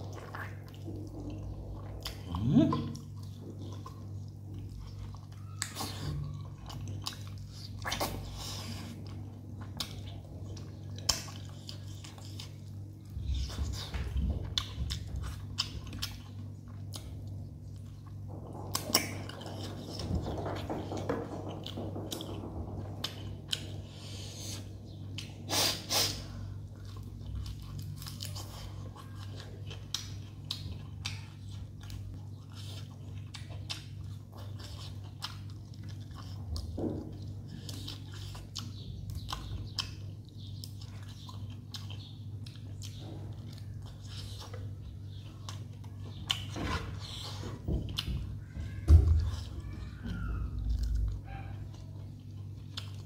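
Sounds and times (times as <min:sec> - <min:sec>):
chewing with wet smacks: 0:00.0 - 0:53.0
low steady hum: 0:00.0 - 0:53.0.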